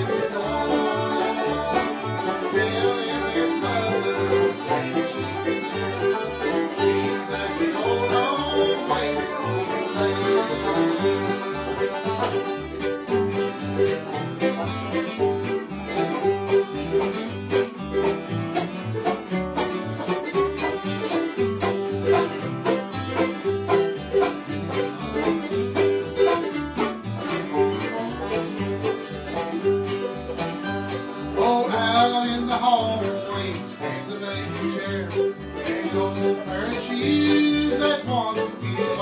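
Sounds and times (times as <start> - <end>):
banjo picking: 0.0 - 39.0
guitar: 0.0 - 39.0.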